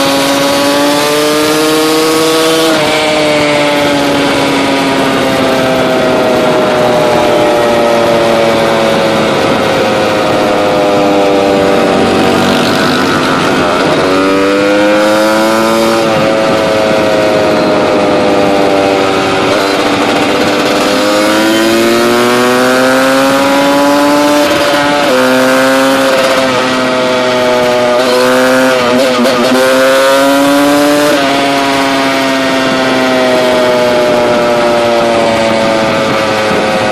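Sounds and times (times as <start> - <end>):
two-stroke engine revving: 0.0 - 36.9.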